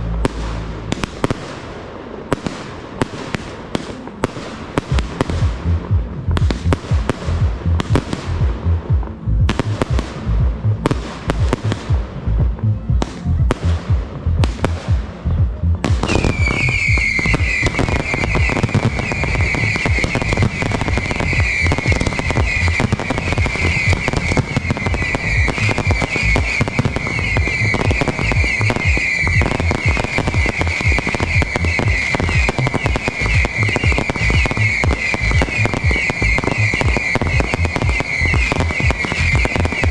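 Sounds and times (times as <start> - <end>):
fireworks banging and crackling: 0.0 - 39.9.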